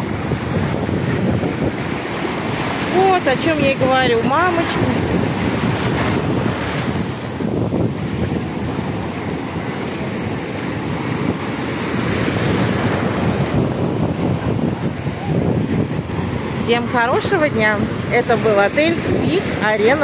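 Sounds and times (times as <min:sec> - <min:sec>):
ocean waves breaking: 0:00.0 - 0:20.0
wind buffeting microphone: 0:00.0 - 0:20.0.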